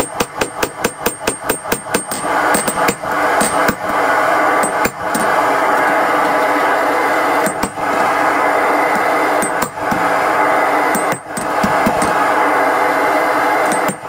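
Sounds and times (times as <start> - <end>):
hammer blows on hot steel: 0.0 - 14.0
loud rushing noise: 2.2 - 14.0.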